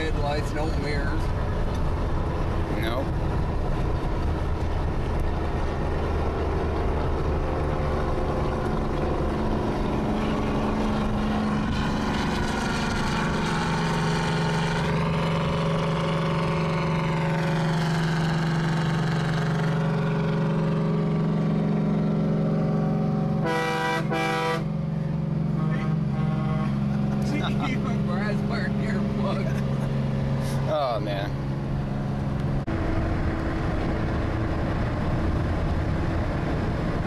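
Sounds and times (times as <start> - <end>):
diesel truck engine running hard: 0.0 - 37.0.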